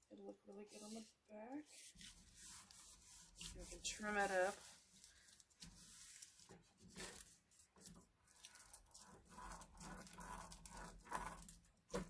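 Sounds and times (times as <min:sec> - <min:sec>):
roller rubbing over paper: 0:00.6 - 0:12.0.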